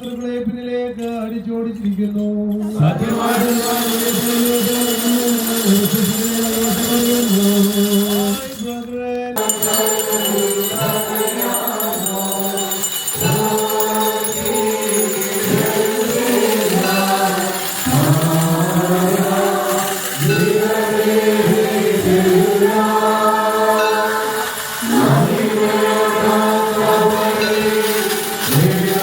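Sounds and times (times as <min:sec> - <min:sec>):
small bells jingling: 0:00.0 - 0:29.0
choir and congregation chanting: 0:02.8 - 0:08.4, 0:09.4 - 0:29.0.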